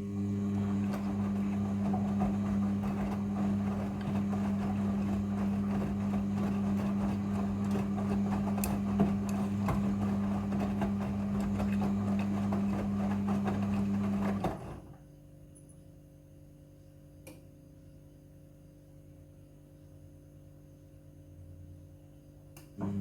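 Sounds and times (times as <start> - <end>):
washing machine churning hum: 0.0 - 15.4, 18.8 - 23.0.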